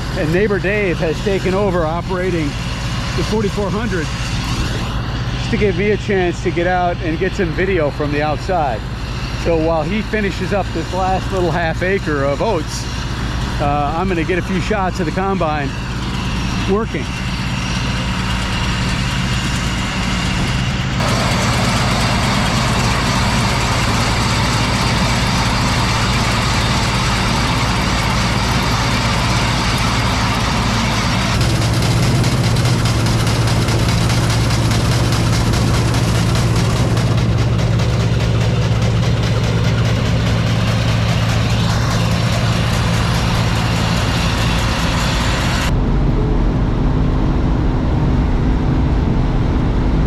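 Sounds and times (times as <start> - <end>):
combine diesel engine drone: 0.0 - 50.0
threshing machinery whir: 0.0 - 50.0.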